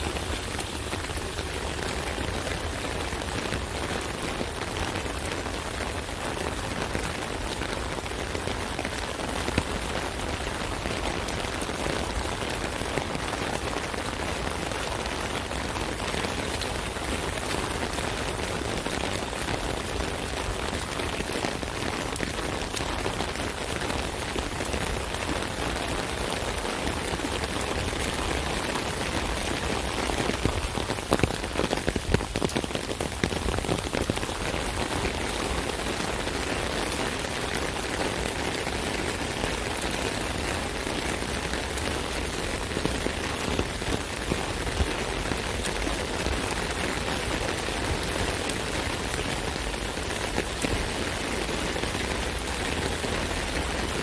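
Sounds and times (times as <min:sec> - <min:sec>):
rain drumming on an umbrella: 0:00.0 - 0:54.0.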